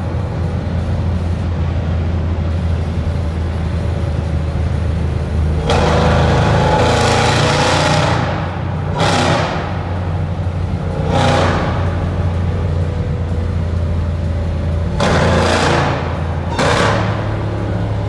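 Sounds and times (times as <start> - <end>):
car engine and exhaust drone: 0.0 - 18.0.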